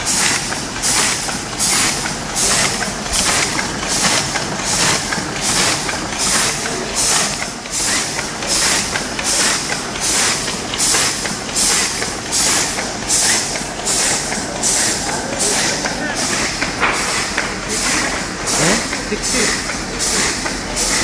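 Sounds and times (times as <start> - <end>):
machine hissing bursts: 0.0 - 21.0
mechanical clatter and hum: 0.0 - 21.0.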